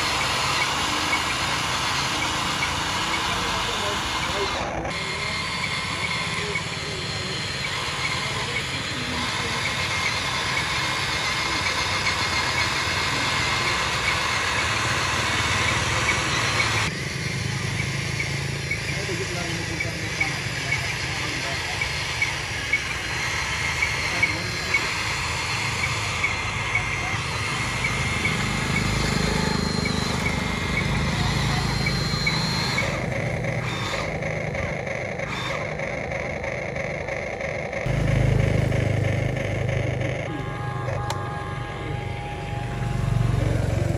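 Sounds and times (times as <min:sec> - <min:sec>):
faint high whine: 0:00.0 - 0:43.9
toy excavator motor: 0:00.0 - 0:43.9.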